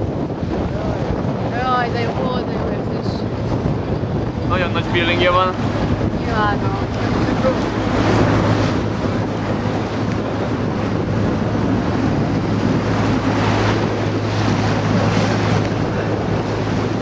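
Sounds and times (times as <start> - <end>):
boat engine drone: 0.0 - 17.0
choppy water washing: 0.0 - 17.0
wind noise on microphone: 0.0 - 17.0.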